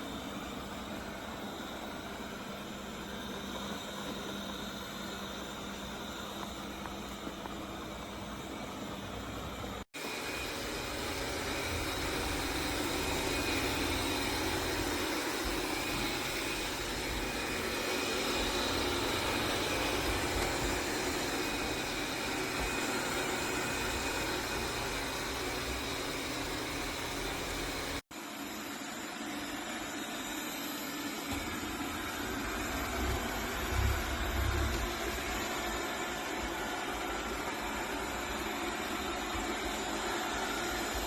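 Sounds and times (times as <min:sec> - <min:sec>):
robot vacuum whirring: 0:00.3 - 0:41.0.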